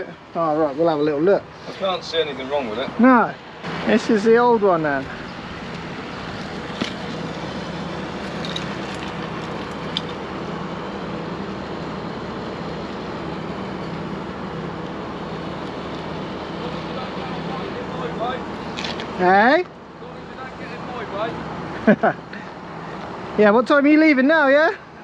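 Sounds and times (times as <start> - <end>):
diesel tractor engine idling: 0.0 - 25.0.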